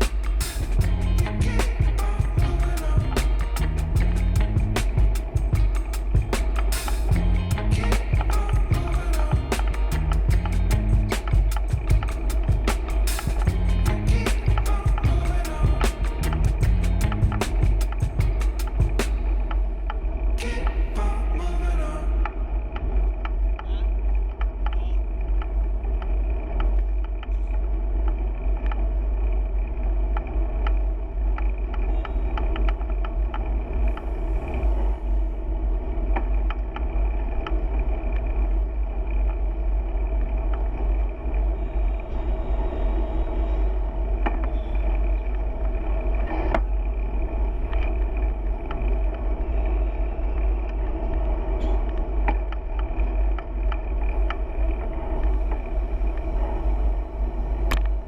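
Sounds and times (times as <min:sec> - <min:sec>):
bicycle road noise: 0:00.0 - 0:58.0
wind rumble on microphone: 0:00.0 - 0:58.0.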